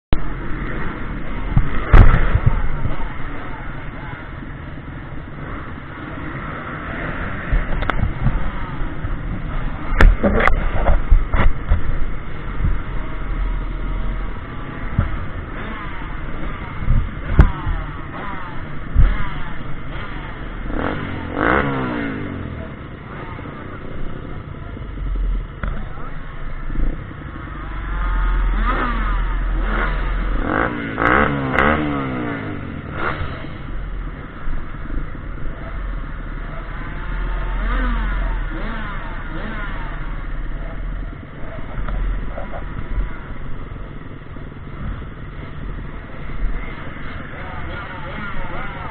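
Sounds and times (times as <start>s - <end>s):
pit bike engines revving: 0.2s - 48.9s.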